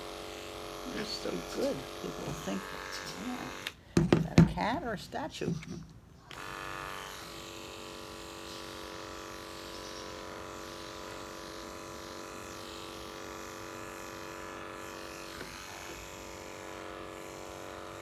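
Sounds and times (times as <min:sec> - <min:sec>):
electric clipper buzzing: 0:00.0 - 0:03.8, 0:06.3 - 0:18.0.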